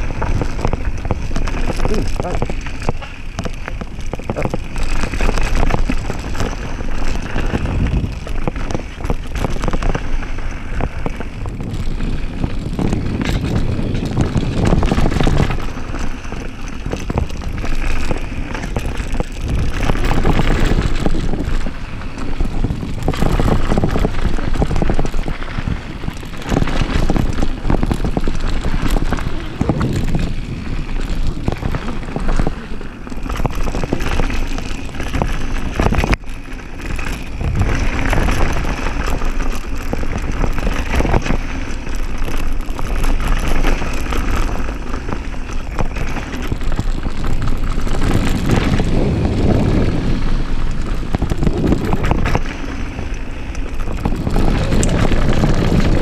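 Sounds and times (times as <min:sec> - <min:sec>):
bike knocking and rattling: 0:00.0 - 0:56.0
bike tyres over dirt and stones: 0:00.0 - 0:56.0
wind buffeting microphone: 0:00.0 - 0:56.0.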